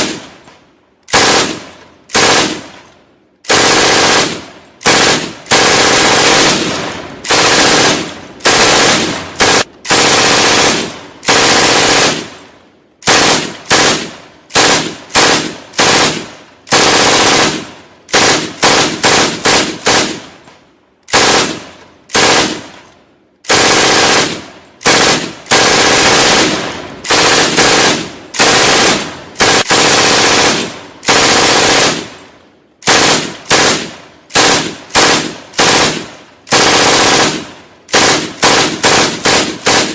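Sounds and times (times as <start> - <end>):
automatic gunfire bursts: 1.1 - 2.9, 3.5 - 12.4, 13.0 - 20.4, 21.1 - 22.8, 23.5 - 32.2, 32.8 - 39.9.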